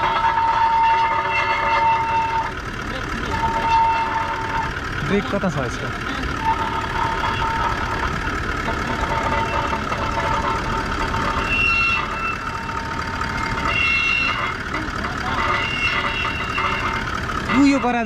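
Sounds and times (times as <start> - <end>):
short high squeaks: 0.0 - 2.6, 3.2 - 4.9, 6.4 - 17.4
vehicle engine idling: 0.0 - 18.0.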